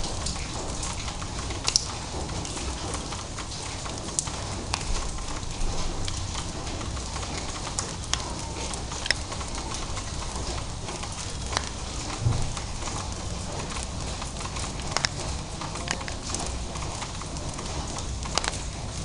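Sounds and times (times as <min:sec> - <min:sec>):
raindrops ticking: 0:00.0 - 0:19.0.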